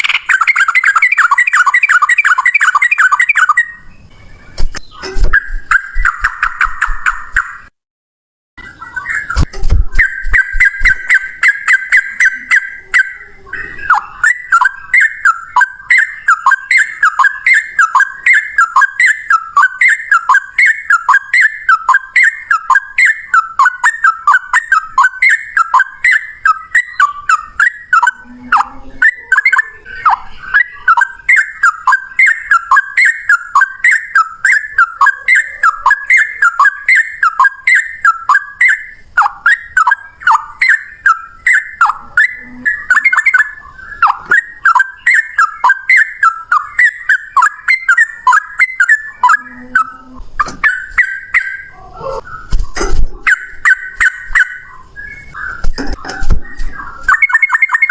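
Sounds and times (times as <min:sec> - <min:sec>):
bulbul singing: 0:00.0 - 0:07.7, 0:08.6 - 0:57.9.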